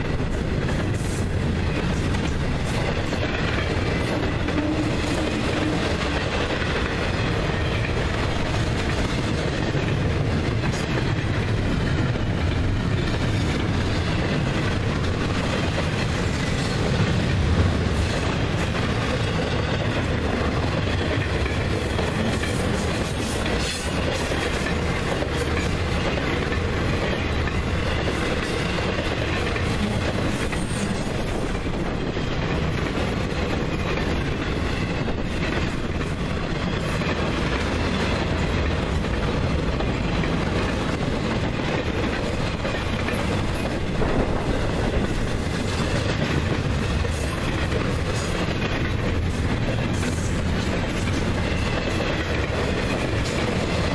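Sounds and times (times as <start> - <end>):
clickety-clack over rail joints: 0.0 - 53.9
steel wheels rumbling on rail: 0.0 - 53.9.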